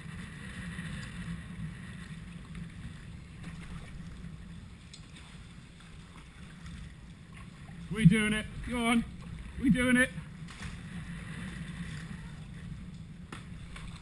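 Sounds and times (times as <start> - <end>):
water sloshing around kayak: 0.0 - 14.0
wind rumble on microphone: 0.0 - 14.0.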